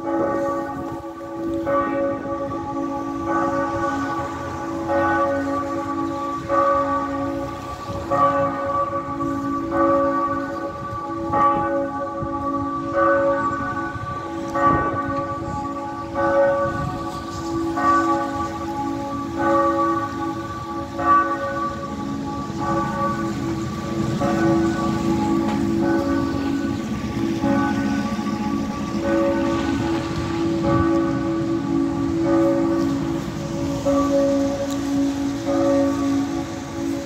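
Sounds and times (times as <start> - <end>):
church bell ringing: 0.0 - 37.0.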